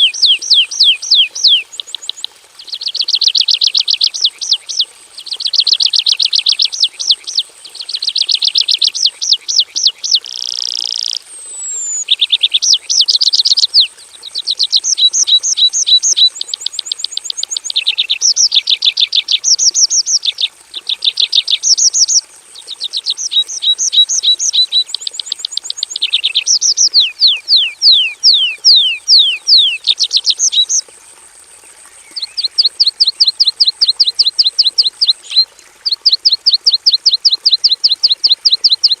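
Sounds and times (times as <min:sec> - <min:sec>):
bird singing trills and whistles: 0:00.0 - 0:30.8, 0:32.0 - 0:39.0.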